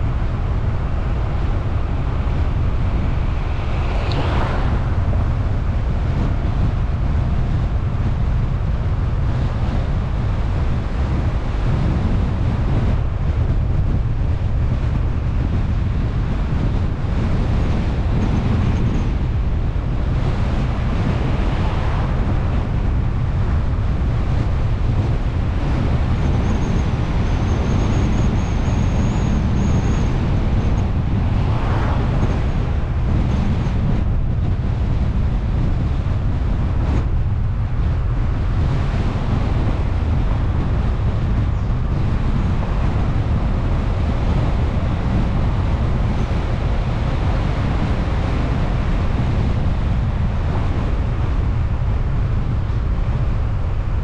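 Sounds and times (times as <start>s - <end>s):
car road and engine rumble: 0.0s - 54.0s
wind buffeting microphone: 0.0s - 54.0s.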